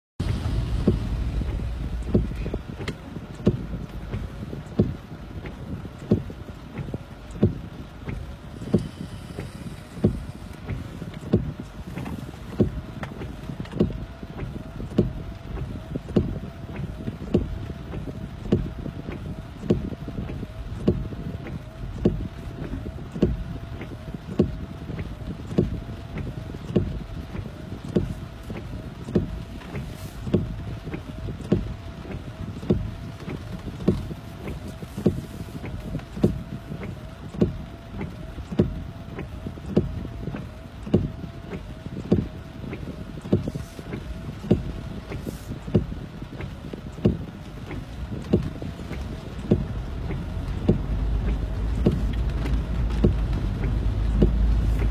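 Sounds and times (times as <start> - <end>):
heavy rain: 0.2 - 54.9
low rumble of car: 0.2 - 54.9
windscreen wiper thumping: 0.2 - 54.9.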